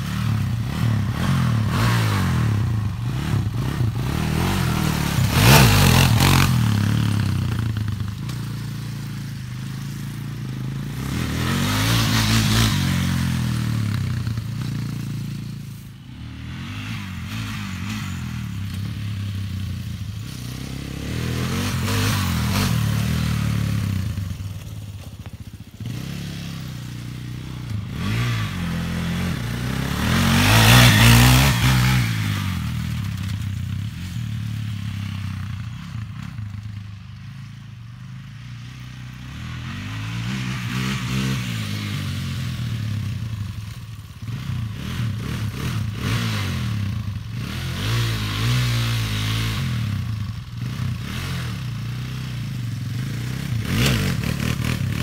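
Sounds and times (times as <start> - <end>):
quad engine revving: 0.0 - 9.2, 9.8 - 24.6, 25.3 - 36.4, 39.1 - 55.0.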